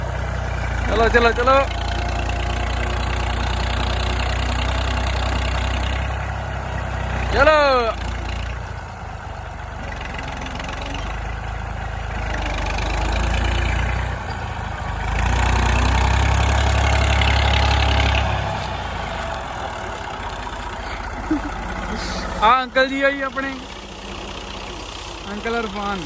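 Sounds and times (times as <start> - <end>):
tractor engine straining: 0.0 - 26.0.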